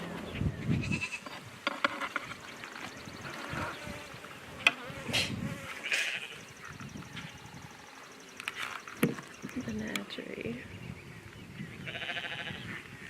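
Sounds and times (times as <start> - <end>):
honey bees buzzing: 0.0 - 11.3.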